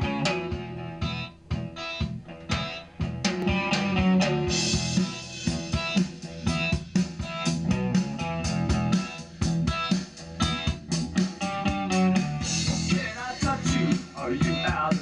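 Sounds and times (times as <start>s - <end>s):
guitar and drum music: 0.0s - 15.0s.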